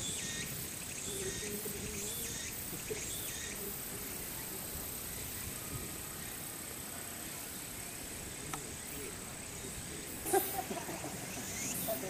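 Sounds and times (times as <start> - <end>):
insect rasping chirp: 0.0 - 12.0
insects trilling: 0.0 - 12.0.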